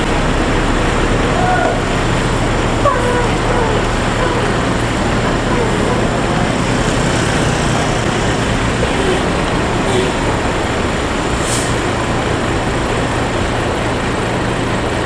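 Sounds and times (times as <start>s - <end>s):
bus engine running: 0.0s - 15.0s
road rumble: 0.0s - 15.0s.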